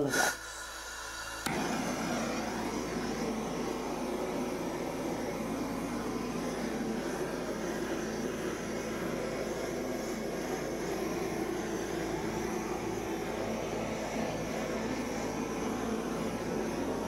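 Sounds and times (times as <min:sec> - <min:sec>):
blowtorch flame rushing: 0:00.0 - 0:17.0.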